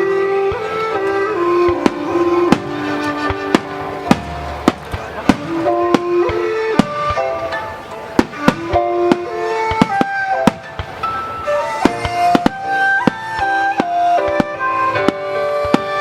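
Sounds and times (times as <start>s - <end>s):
music with slow melody: 0.0s - 16.0s
firework shells bursting: 0.9s - 16.0s.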